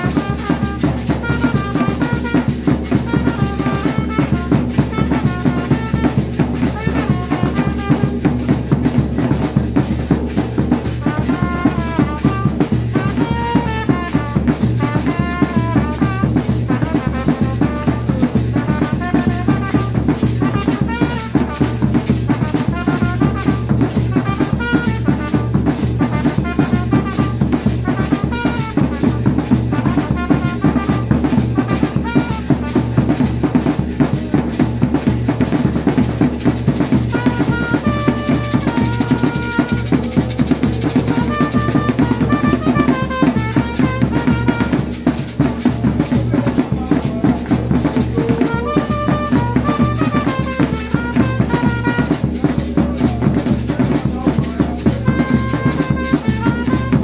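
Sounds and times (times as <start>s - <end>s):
drum band playing a steady beat: 0.0s - 57.0s
trumpet melody: 0.0s - 57.0s.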